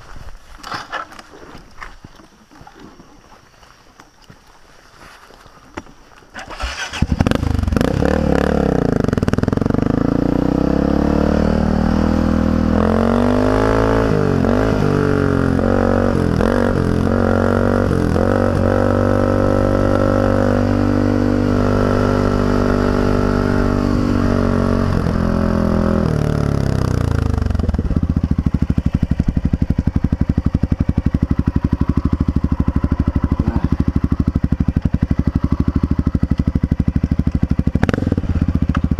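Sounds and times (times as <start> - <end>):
motorcycle engine revving: 6.4 - 38.9.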